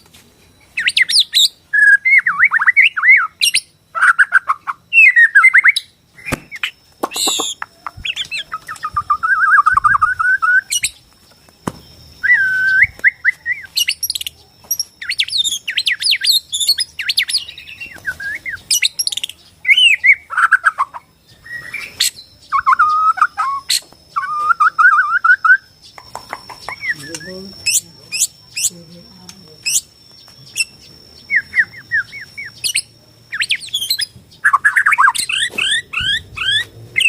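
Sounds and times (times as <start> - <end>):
songbird singing trills and whistles: 0.4 - 37.0.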